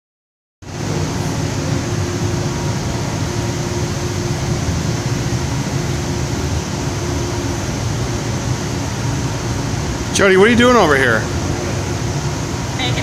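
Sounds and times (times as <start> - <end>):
evaporator machinery running: 0.6 - 13.0.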